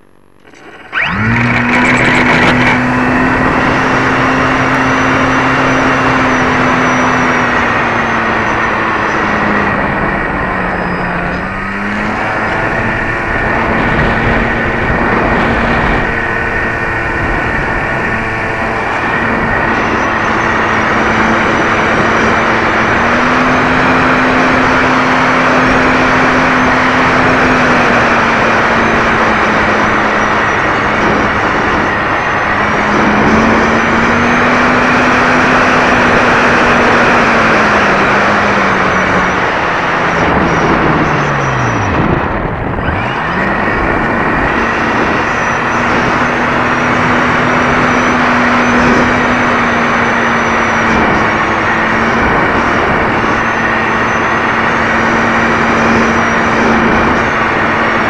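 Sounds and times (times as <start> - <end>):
model plane engine running hard: 0.0 - 58.0
wind and propeller rush: 0.0 - 58.0.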